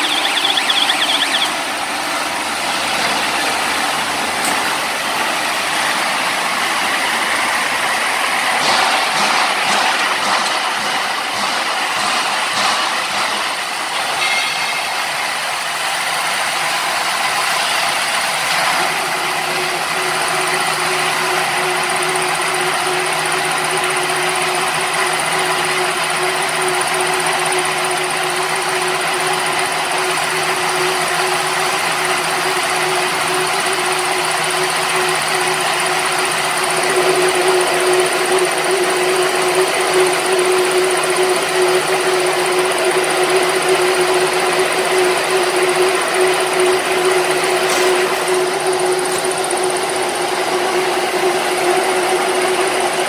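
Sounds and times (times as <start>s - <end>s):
baler-wrapper machine running: 0.0s - 53.0s.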